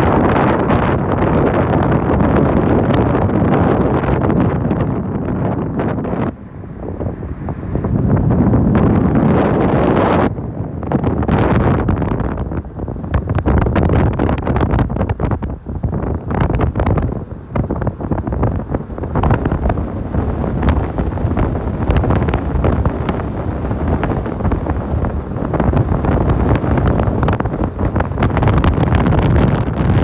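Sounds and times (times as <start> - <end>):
car driving rumble: 0.0 - 30.0
wind buffeting microphone: 0.0 - 30.0.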